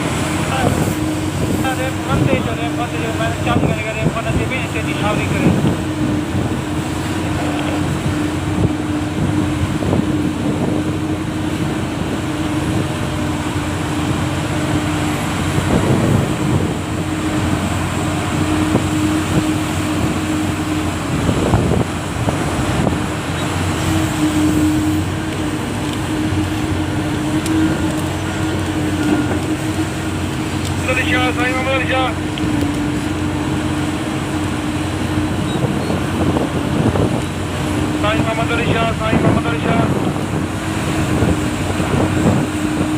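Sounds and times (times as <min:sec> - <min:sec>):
diesel engines humming: 0:00.0 - 0:42.9.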